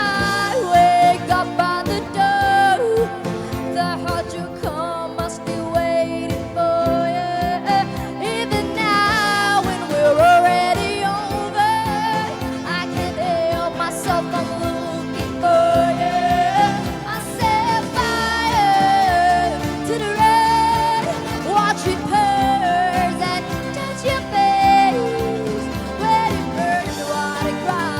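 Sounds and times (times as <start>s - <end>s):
instrumental accompaniment: 0.0s - 27.9s.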